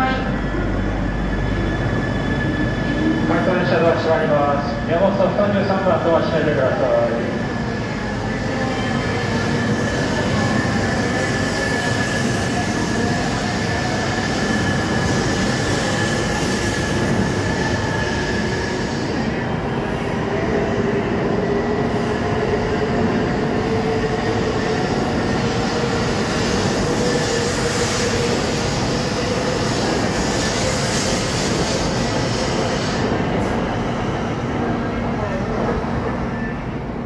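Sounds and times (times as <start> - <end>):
train wheels on rails: 6.0 - 36.2.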